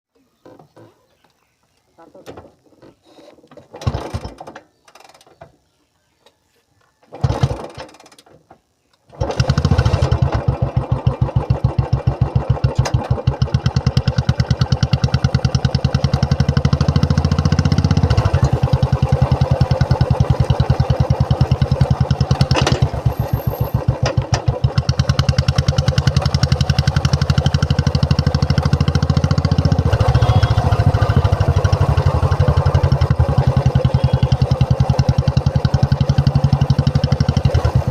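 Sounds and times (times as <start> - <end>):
motorcycle engine starting and idling: 3.2 - 5.5, 7.0 - 37.9.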